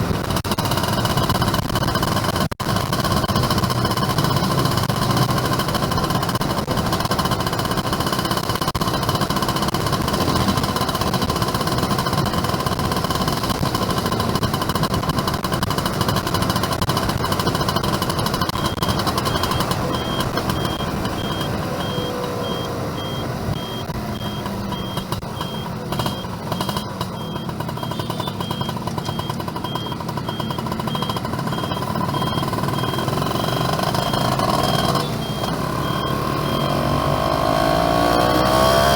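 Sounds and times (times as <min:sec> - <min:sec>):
two-stroke motorcycle engine: 0:00.0 - 0:38.9
wind and road noise: 0:00.0 - 0:38.9
fast high beeps: 0:03.1 - 0:38.9.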